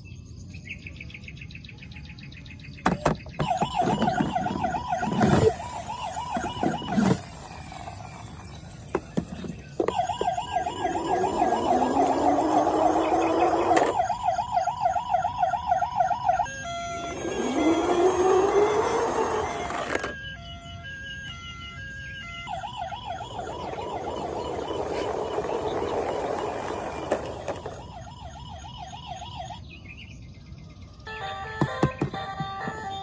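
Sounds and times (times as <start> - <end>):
toy electronic siren warbling: 2.9 - 29.6, 31.1 - 33.0.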